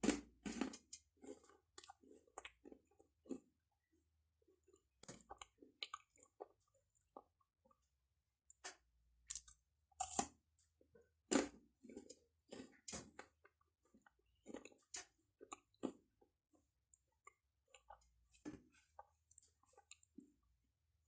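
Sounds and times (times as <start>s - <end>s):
soft chewing: 0.0s - 20.8s.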